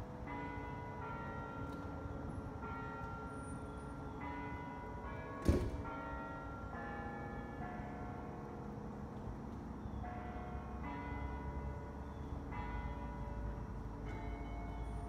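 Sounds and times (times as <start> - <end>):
bells ringing: 0.0 - 8.4, 9.8 - 15.0.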